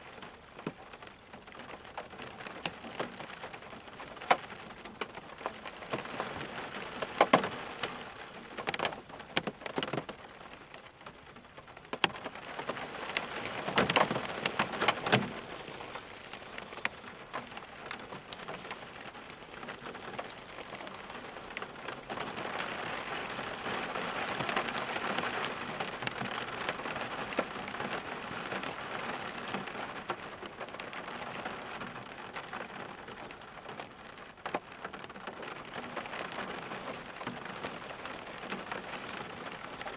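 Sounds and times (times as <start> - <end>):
rain falling: 0.0 - 39.9
raindrops striking a surface: 0.0 - 39.9.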